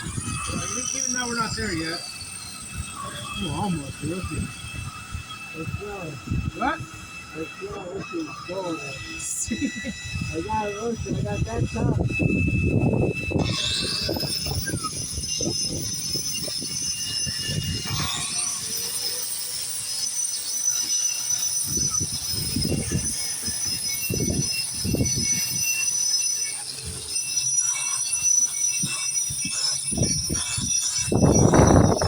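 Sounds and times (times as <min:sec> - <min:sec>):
electric grinder whining: 0:00.0 - 0:32.0.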